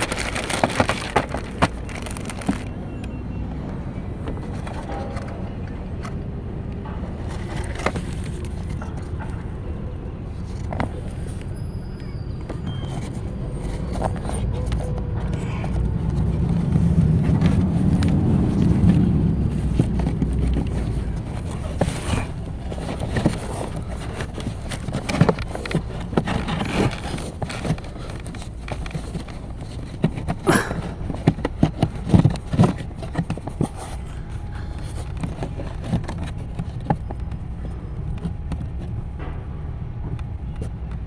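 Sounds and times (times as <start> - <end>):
hands clicking and knocking plastic: 0.0 - 9.7, 12.3 - 41.0.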